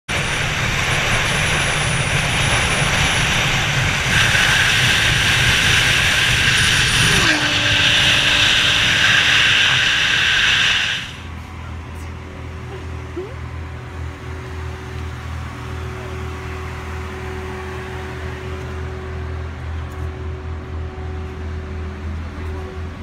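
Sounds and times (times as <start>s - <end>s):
car engine and road noise: 0.1s - 23.0s.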